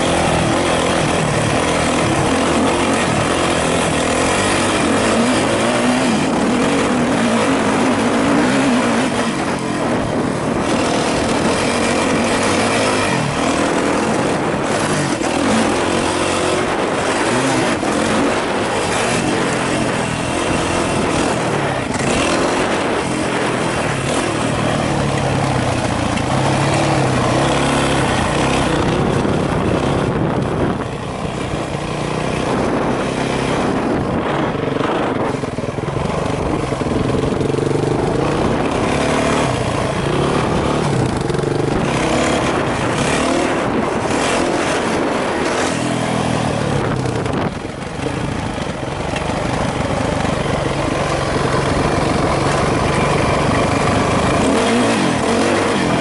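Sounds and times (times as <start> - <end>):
motorbike engine revving: 0.0 - 56.0
wind noise: 0.0 - 56.0.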